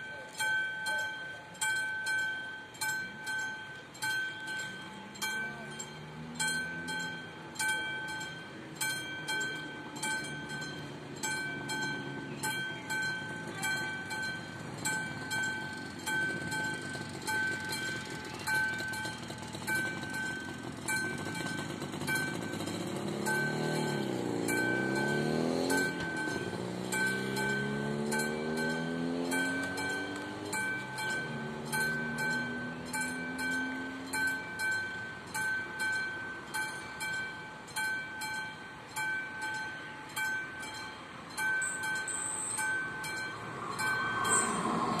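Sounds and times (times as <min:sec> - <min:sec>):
level crossing bell ringing: 0:00.0 - 0:45.0.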